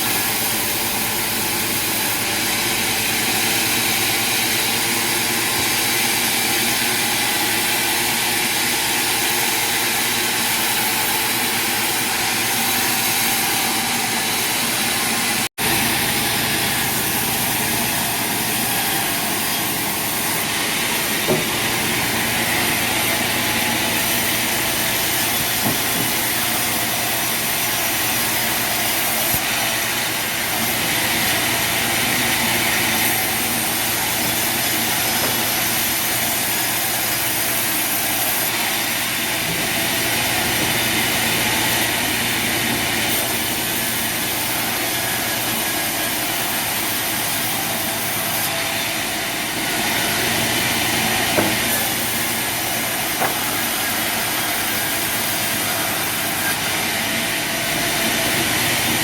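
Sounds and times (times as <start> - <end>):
high machine whines: 0.0 - 59.0
sawmill machinery hiss: 0.0 - 59.0.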